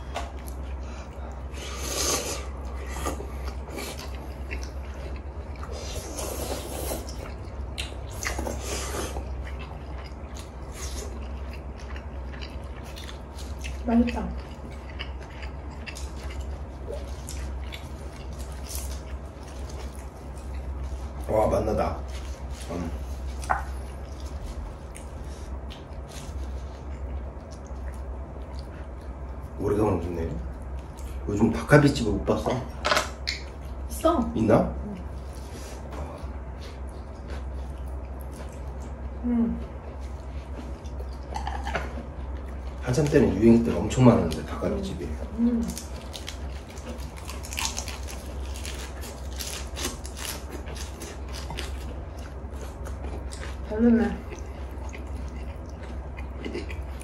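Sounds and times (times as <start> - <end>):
steady low hum: 0.0 - 57.0
wet chewing and smacking: 2.2 - 29.6, 32.3 - 33.9, 35.0 - 57.0.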